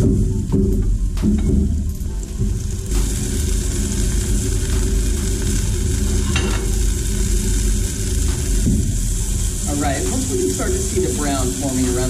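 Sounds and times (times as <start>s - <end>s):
fish sizzling in oil: 2.1s - 12.0s.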